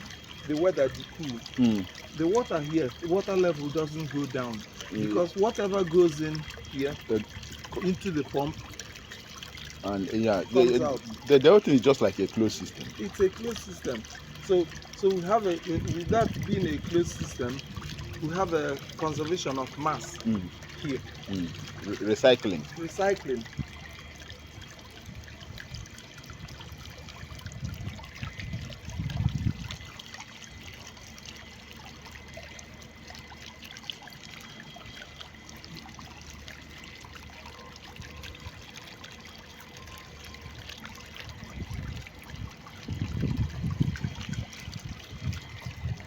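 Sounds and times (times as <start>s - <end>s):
fountain water trickling: 0.0s - 46.0s.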